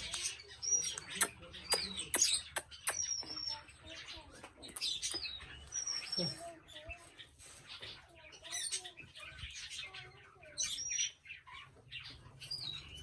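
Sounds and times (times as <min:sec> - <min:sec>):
parrot chirping and chattering: 0:00.0 - 0:13.0.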